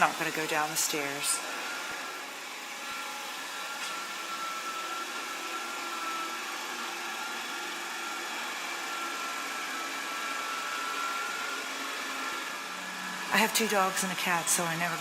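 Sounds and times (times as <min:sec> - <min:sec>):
robot vacuum cleaner running: 0:00.0 - 0:15.0.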